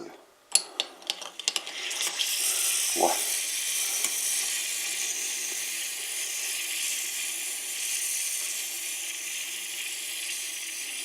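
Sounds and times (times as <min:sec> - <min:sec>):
cola fizzing and foaming: 0:01.1 - 0:11.0.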